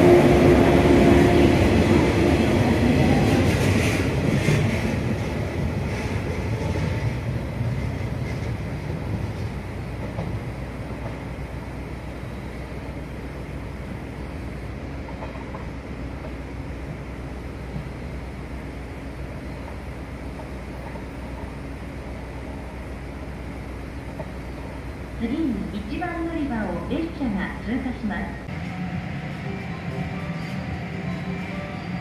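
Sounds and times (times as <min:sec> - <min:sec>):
train rumbling on track: 0:00.0 - 0:32.0.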